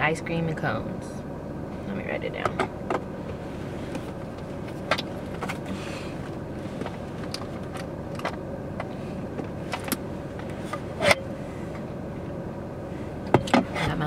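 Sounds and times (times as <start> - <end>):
car heater fan and engine hum: 0.0 - 14.0.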